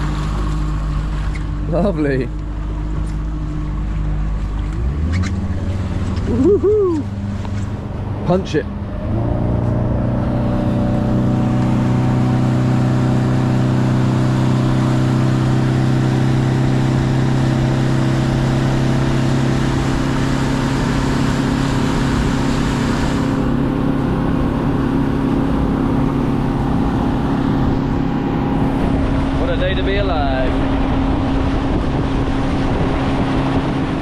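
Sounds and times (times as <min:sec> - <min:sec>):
motorboat engine drone: 0:00.0 - 0:34.0
rushing wind and water: 0:00.0 - 0:34.0.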